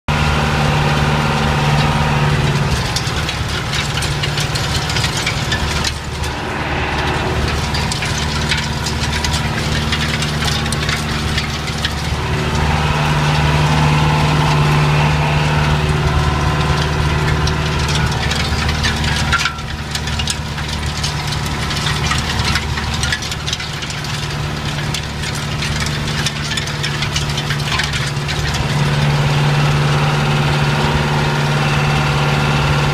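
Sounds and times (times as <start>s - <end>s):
tractor diesel engine droning: 0.0s - 32.9s
light rattling: 2.4s - 30.6s.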